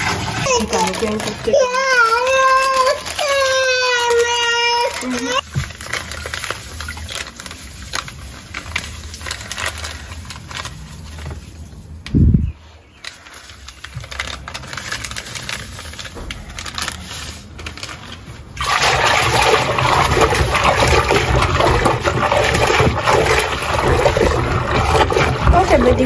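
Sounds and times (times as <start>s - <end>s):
water sloshing in washing machine: 0.0s - 11.6s, 14.8s - 26.0s.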